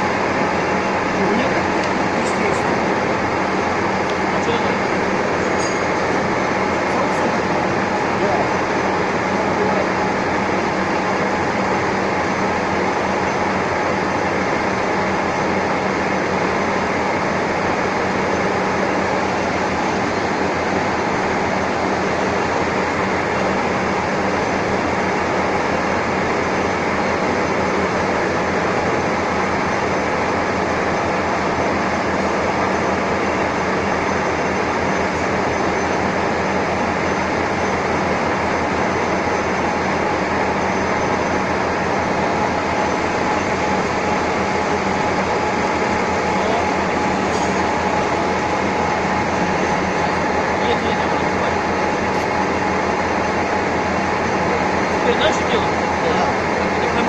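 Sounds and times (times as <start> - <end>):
lathe running: 0.0 - 57.0.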